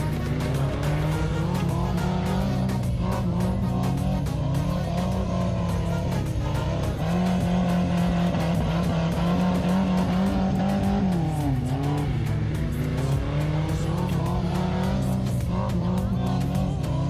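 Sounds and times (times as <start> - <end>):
engine revving hard: 0.0 - 17.0.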